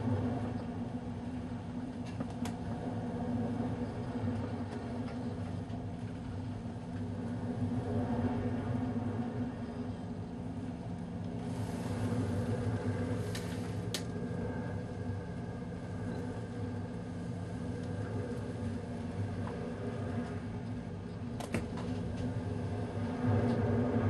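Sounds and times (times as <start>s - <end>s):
ferry engine drone: 0.0s - 24.0s.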